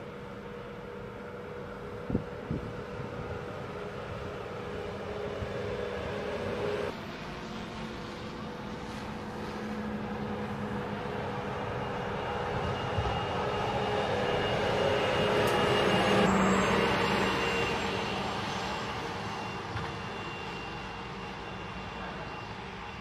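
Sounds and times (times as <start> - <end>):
high steady whine: 0.0 - 23.0.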